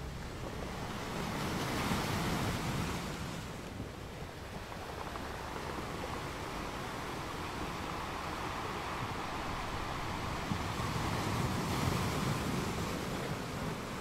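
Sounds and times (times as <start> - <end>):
rushing water: 0.1 - 14.0.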